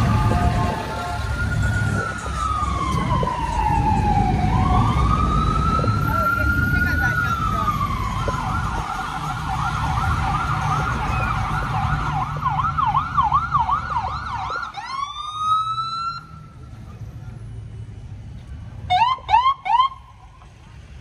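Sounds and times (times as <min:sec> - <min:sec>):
ambulance siren: 0:00.0 - 0:16.8, 0:18.8 - 0:20.3
truck engines rumbling: 0:00.0 - 0:21.0.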